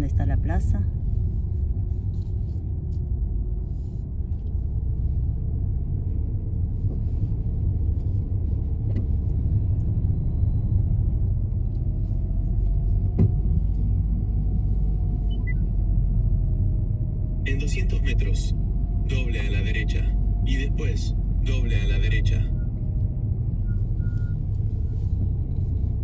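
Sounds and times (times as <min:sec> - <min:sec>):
faint whine: 0:00.0 - 0:16.6, 0:17.4 - 0:26.0
engine and tyre rumble: 0:00.0 - 0:26.0.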